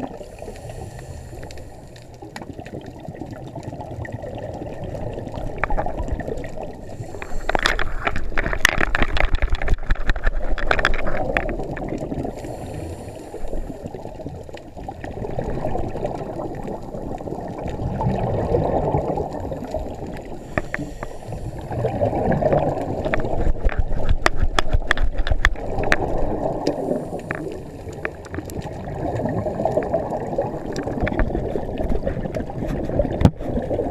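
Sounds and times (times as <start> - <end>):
underwater bubbles gurgling: 0.0 - 33.9.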